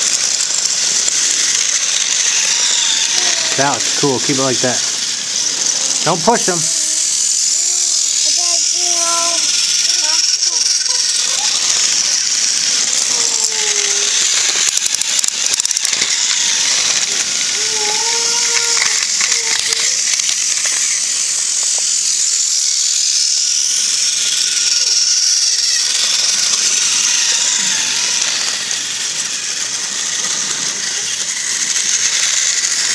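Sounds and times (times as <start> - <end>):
toy train motor whirring: 0.0 - 32.9.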